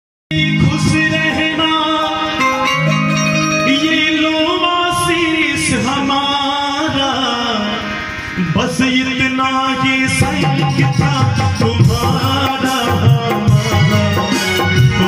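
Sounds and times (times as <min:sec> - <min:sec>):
harmonium playing held notes: 0:00.3 - 0:15.0
person singing devotional song: 0:00.3 - 0:15.0.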